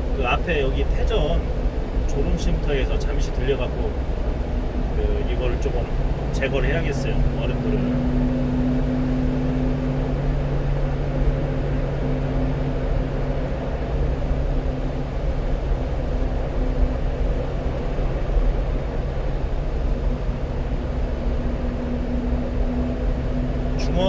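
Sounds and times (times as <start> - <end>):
road and tyre noise: 0.0 - 24.0
truck engine hum: 0.0 - 24.0.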